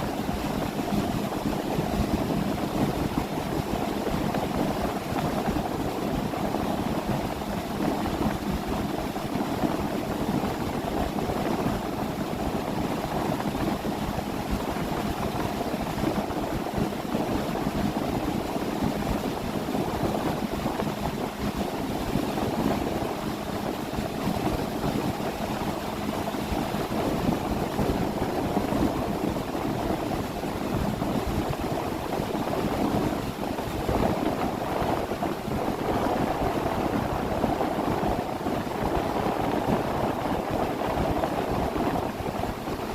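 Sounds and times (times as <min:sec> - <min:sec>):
faint steady hum: 0:00.0 - 0:42.9
motorboat engine running: 0:00.0 - 0:42.9.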